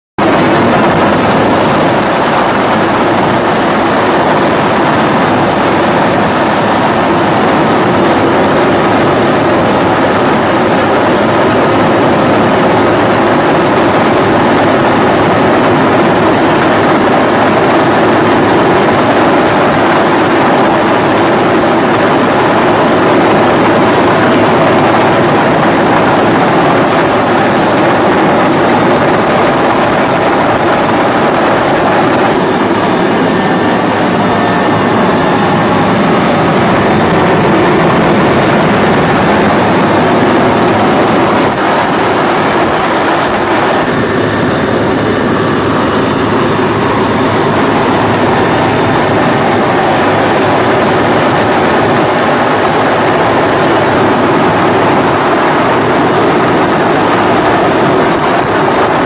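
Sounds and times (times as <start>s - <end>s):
loud engine drone: 0.0s - 59.0s
rushing noise: 0.2s - 59.0s.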